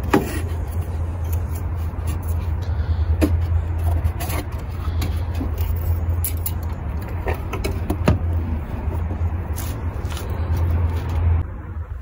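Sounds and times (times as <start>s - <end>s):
air intake knocking and scraping: 0.0s - 11.3s.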